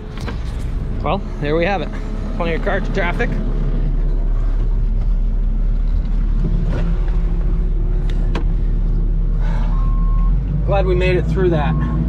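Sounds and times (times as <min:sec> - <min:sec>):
engine low rumble from cab: 0:00.0 - 0:12.0.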